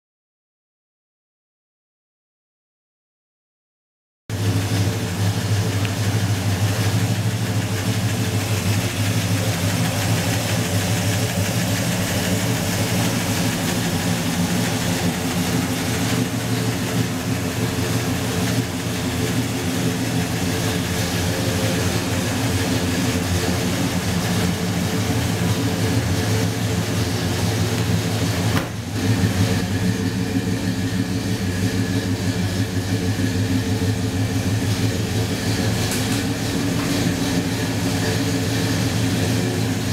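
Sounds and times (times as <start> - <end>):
car engine idling: 4.3 - 39.9.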